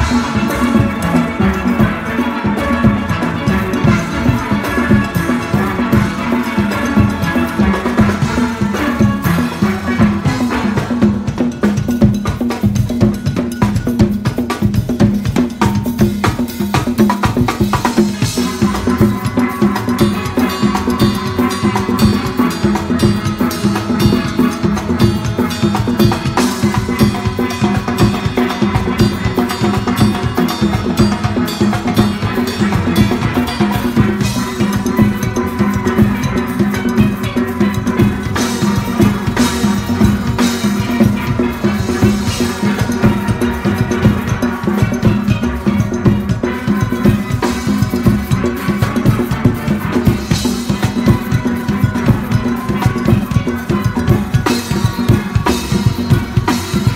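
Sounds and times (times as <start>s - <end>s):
congas: 0.0s - 56.9s
drum kit groove: 0.0s - 56.9s
steel pans playing: 0.0s - 56.9s.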